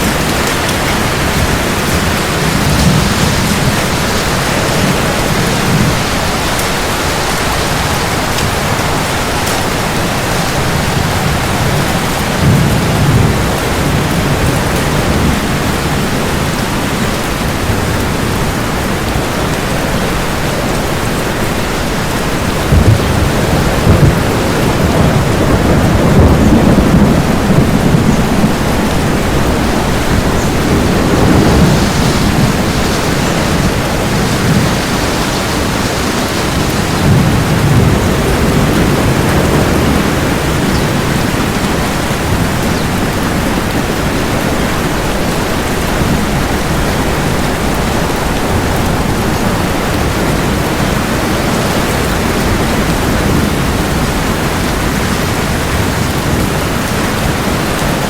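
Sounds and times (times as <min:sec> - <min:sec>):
heavy rain: 0:00.0 - 0:58.0
thunder rolling: 0:00.0 - 0:58.0.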